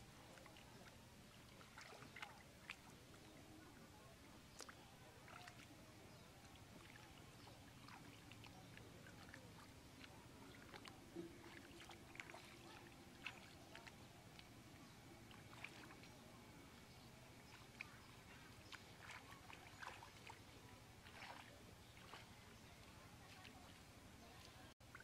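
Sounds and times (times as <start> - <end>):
soft ticks and plops: 0.2 - 3.4, 4.5 - 5.8, 6.4 - 16.2, 17.4 - 25.0
splashing in muddy water: 0.3 - 3.3, 4.5 - 25.0.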